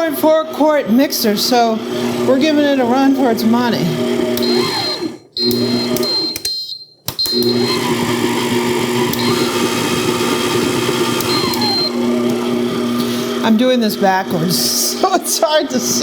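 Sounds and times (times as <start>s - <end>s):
stand mixer motor running: 0.0s - 6.4s, 7.2s - 16.0s.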